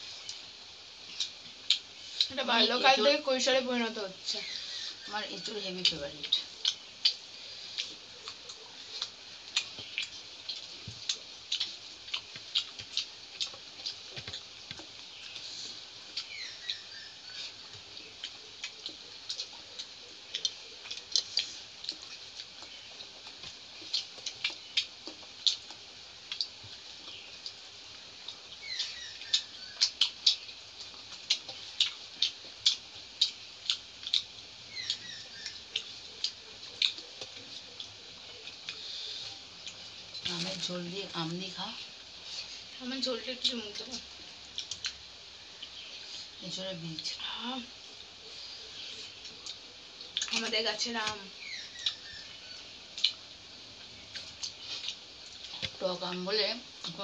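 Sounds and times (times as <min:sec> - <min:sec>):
wet chewing mouth sounds: 0:00.0 - 0:02.4, 0:04.4 - 0:41.1, 0:41.7 - 0:55.8.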